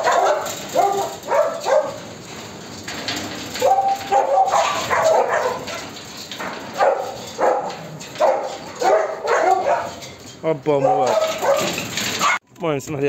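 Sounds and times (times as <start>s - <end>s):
dogs barking: 0.0s - 2.1s, 3.5s - 12.4s.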